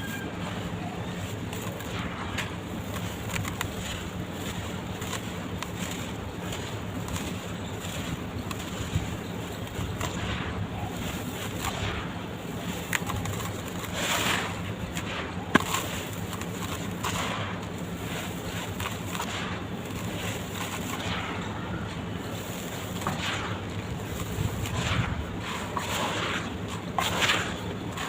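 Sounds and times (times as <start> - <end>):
dirt crumbling by hand: 0.0 - 28.0
steady low hum: 0.0 - 28.0.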